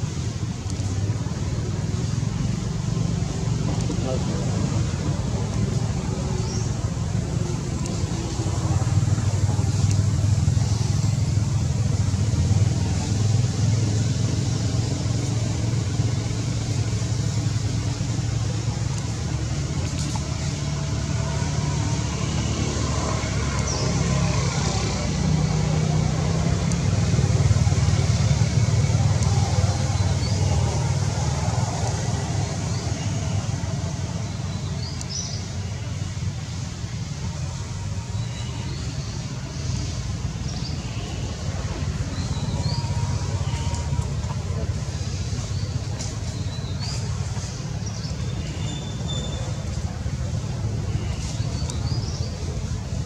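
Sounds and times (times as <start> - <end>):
engine humming: 0.0 - 53.0
low outdoor rumble: 0.0 - 53.0.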